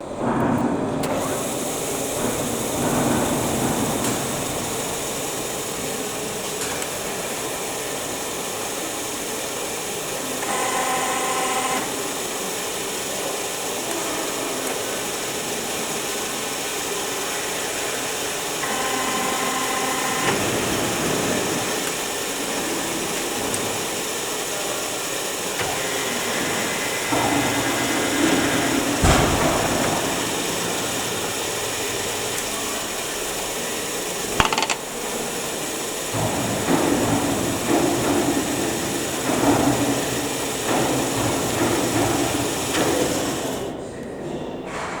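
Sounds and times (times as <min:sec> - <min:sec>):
milling machine hum: 0:00.0 - 0:43.8
short machine whine: 0:00.8 - 0:43.7.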